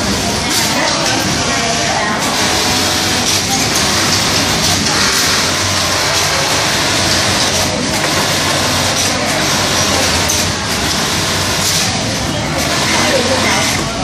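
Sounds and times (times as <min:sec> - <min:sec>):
sewing machines running: 0:00.0 - 0:14.0.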